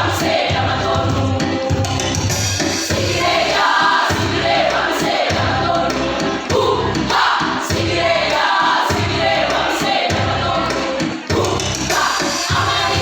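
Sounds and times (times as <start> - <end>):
choir singing: 0.0 - 1.9, 2.8 - 13.0.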